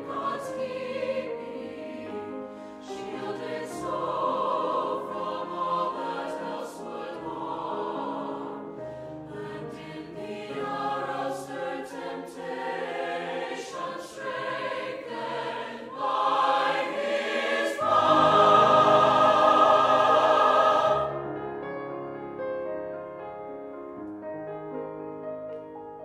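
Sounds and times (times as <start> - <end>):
mixed choir singing: 0.0 - 21.2.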